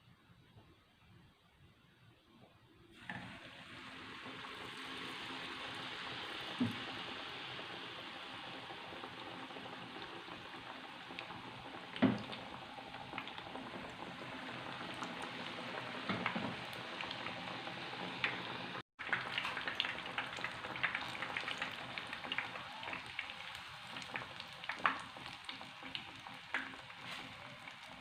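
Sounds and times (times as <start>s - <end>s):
fritters deep-frying in oil: 3.7s - 28.0s.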